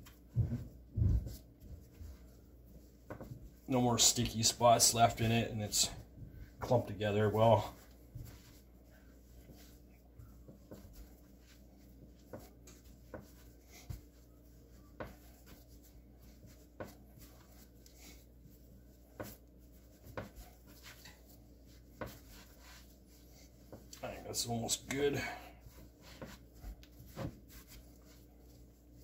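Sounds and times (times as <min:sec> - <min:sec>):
hands kneading dough on board: 0:00.0 - 0:29.0.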